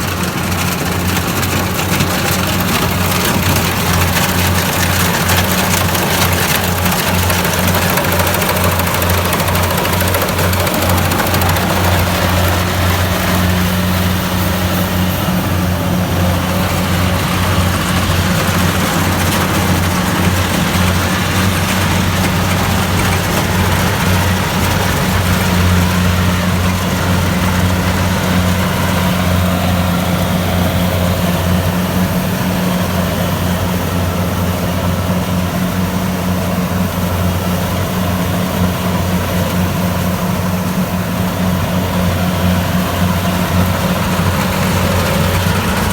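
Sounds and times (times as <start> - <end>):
combine harvester engine drone: 0.0 - 45.9
machinery hum and rush: 0.0 - 45.9.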